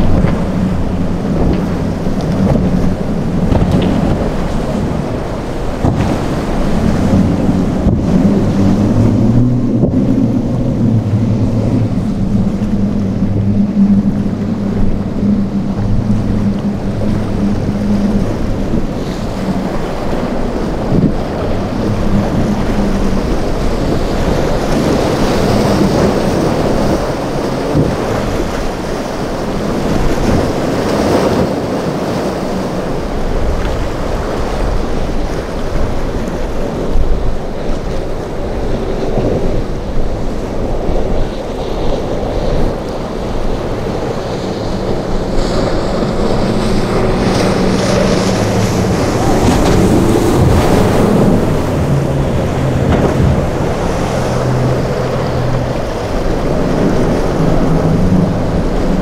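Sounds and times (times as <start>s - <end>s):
boat engine humming: 0.0s - 59.0s
waves rushing: 0.0s - 59.0s
wind buffeting microphone: 0.0s - 59.0s.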